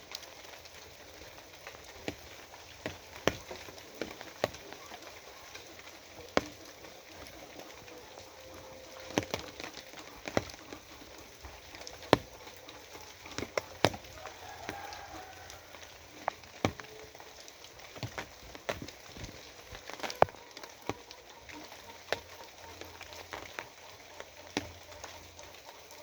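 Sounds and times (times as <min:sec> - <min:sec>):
drops ticking on hard surface: 0:00.0 - 0:26.0
rain hissing: 0:00.0 - 0:26.0.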